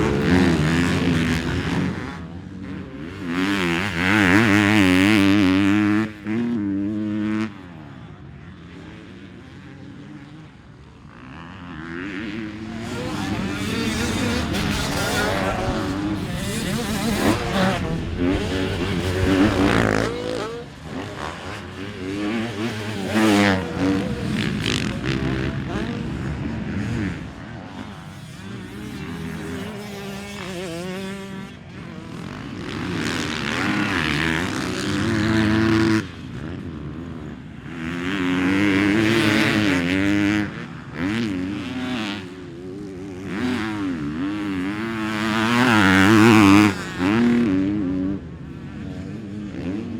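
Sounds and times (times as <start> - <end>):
motocross bike engines revving: 0.0 - 49.9.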